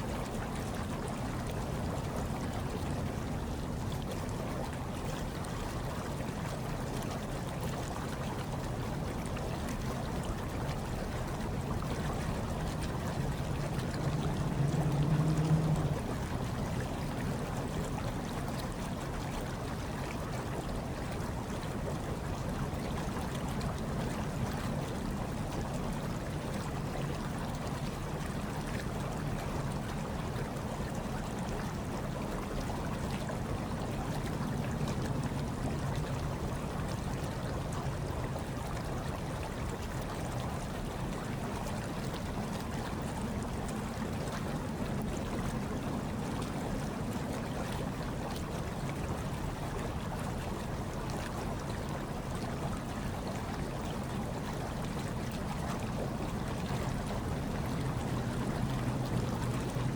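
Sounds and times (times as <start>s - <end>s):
hot tub water bubbling: 0.0s - 59.9s.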